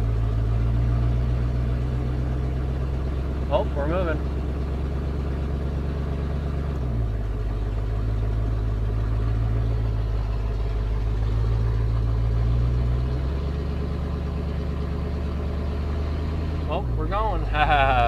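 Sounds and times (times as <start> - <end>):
truck engine running low: 0.0 - 18.0.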